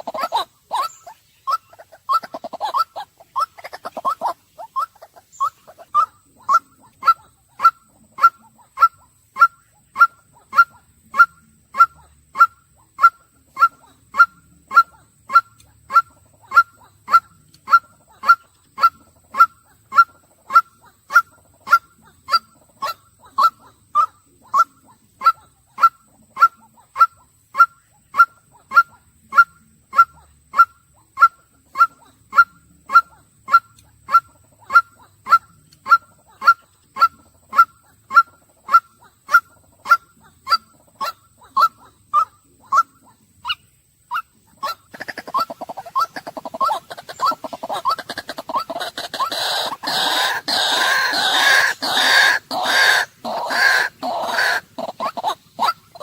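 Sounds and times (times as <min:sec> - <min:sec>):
waterhen calling: 0:00.0 - 0:56.0.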